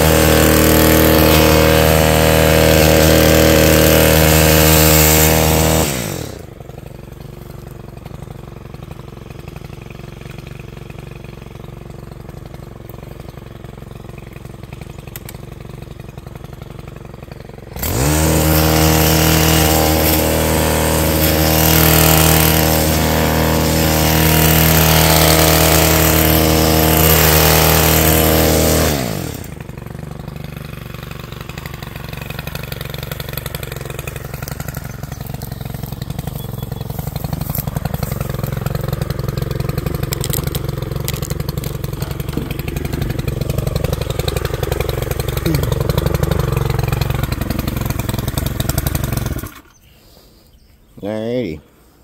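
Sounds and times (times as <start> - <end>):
hedge trimmer engine revving: 0.0 - 50.2.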